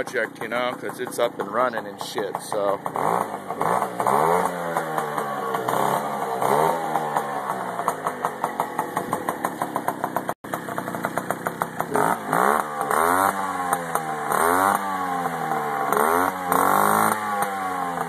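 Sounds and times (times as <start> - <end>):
moped engine revving: 0.0 - 18.0.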